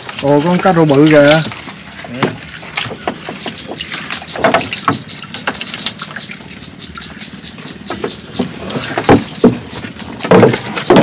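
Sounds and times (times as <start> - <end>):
water splashing and dripping: 0.0 - 11.0.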